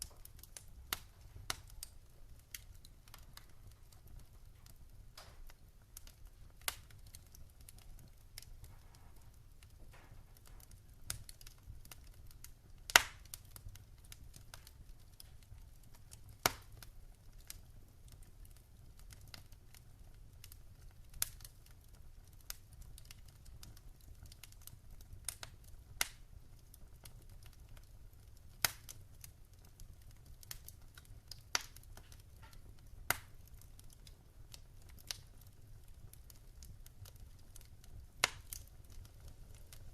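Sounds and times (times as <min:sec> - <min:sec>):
sharp pops of fire: 0:00.0 - 0:19.8, 0:20.4 - 0:21.8, 0:22.5 - 0:26.3, 0:27.0 - 0:39.9
wood fire crackling: 0:00.0 - 0:39.9.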